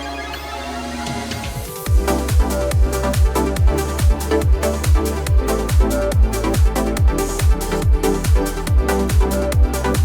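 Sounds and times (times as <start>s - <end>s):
synth chords: 0.0s - 10.0s
kick drum beat: 1.9s - 10.0s.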